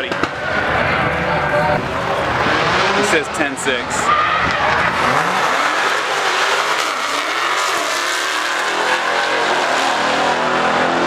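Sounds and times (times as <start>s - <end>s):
loud car engine running: 0.0s - 11.0s.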